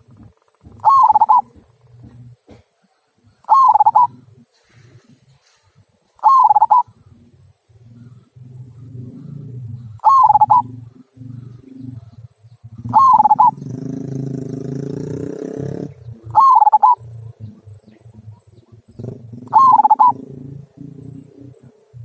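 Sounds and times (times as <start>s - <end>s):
dove cooing: 0.0s - 2.6s, 3.4s - 5.3s, 6.2s - 22.0s.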